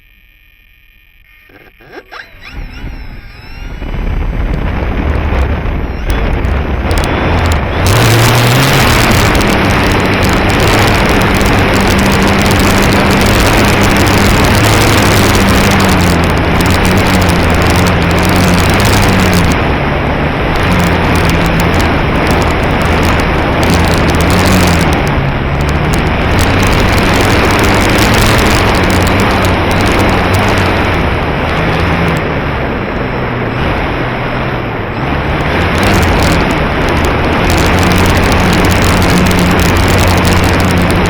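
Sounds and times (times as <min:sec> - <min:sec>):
low wavering hum: 0:00.0 - 0:41.0
wind rushing on microphone: 0:02.2 - 0:41.0.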